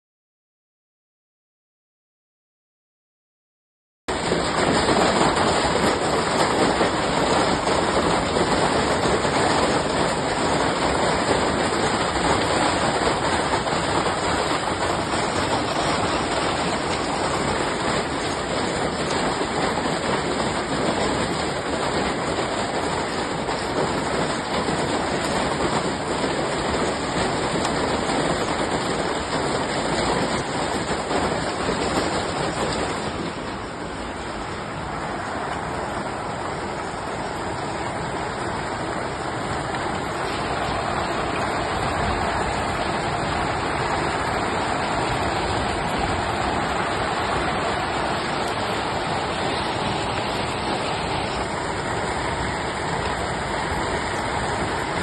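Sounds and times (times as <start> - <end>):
heavy hail and rain: 4.1 - 55.0.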